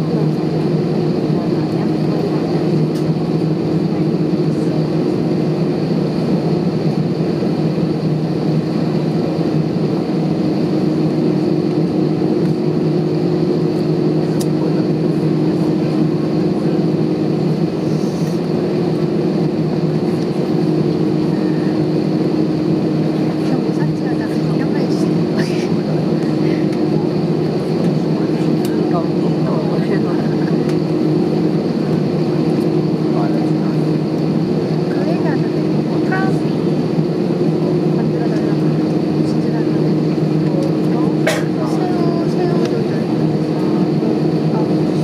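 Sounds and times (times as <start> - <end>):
airplane cabin engine drone: 0.0 - 45.0.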